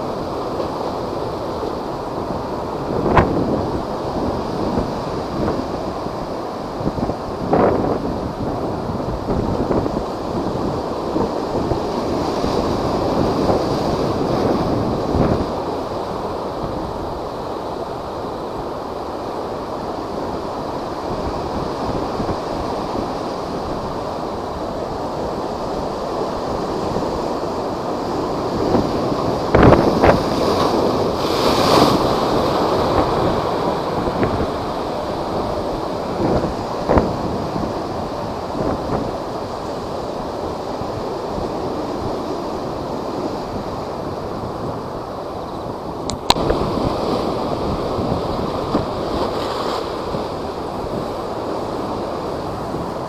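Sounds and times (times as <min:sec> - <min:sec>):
heavy surf roaring and crashing: 0:00.0 - 0:53.0
wind buffeting microphone: 0:00.0 - 0:53.0.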